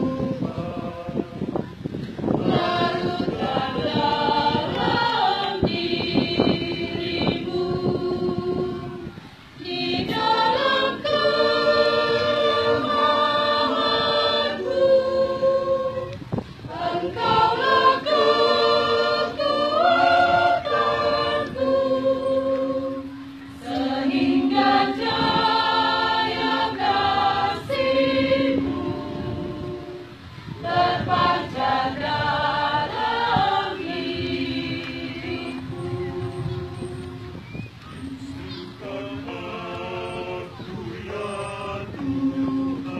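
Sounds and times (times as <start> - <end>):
choir singing unaccompanied: 0.0 - 42.9.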